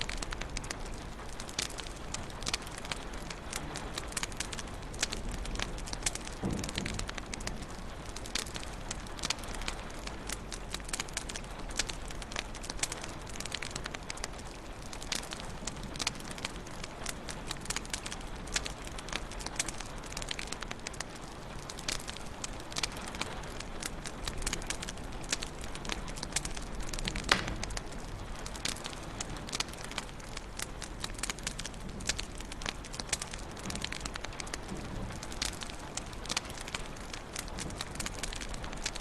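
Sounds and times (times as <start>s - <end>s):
low hiss of burning: 0.0s - 39.0s
wood fire crackling and popping: 0.0s - 39.0s.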